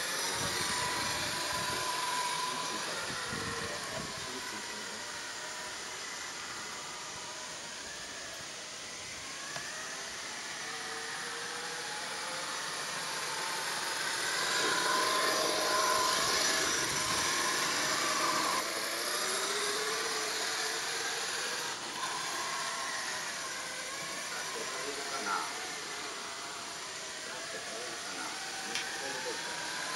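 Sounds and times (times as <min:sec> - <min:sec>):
electric motor whining: 0:00.0 - 0:29.9.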